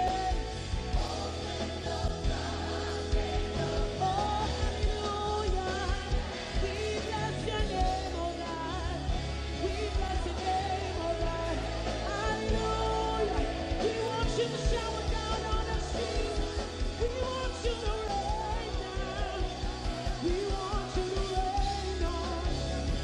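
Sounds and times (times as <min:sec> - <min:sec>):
band with bass and beat: 0:00.0 - 0:23.0
woman singing into a microphone: 0:00.0 - 0:23.0.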